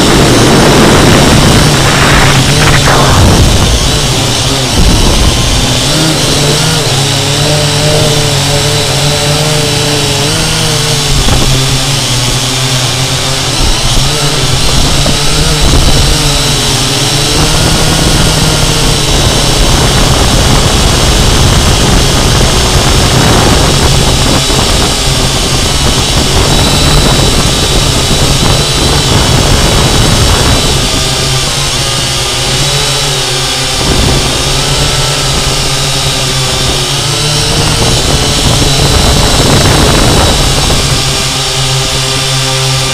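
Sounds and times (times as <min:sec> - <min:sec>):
quadcopter motors buzzing: 0:00.0 - 0:42.9.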